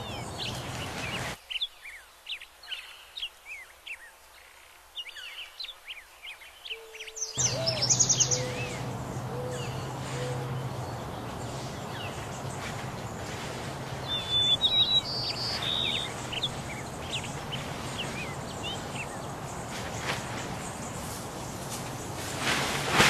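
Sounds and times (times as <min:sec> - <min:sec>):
small birds chirping: 0:00.0 - 0:22.8
steady outdoor hiss: 0:00.0 - 0:23.0.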